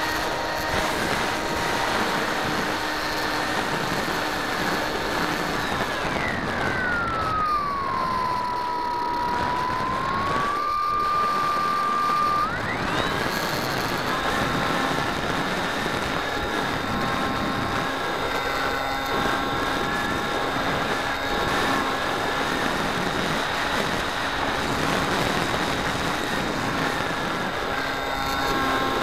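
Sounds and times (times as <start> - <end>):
electric motor and propeller whine: 0.0 - 29.0.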